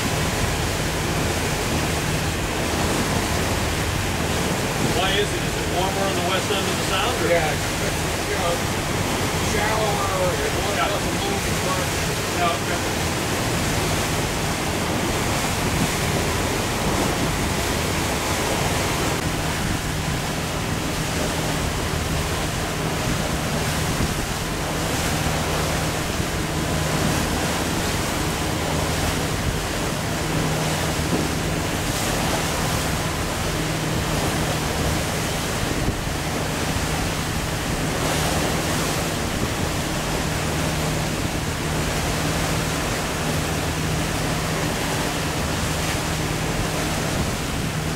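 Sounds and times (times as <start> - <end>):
water rushing against hull: 0.0 - 47.9
wind: 0.0 - 47.9.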